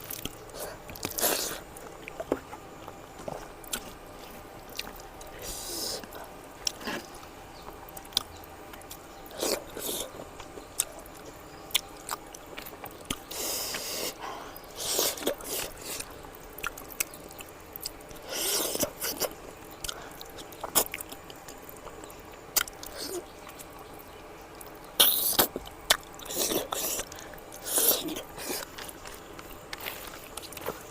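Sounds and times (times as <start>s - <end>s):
person chewing with mouth smacks: 0.0s - 23.7s, 24.6s - 30.9s.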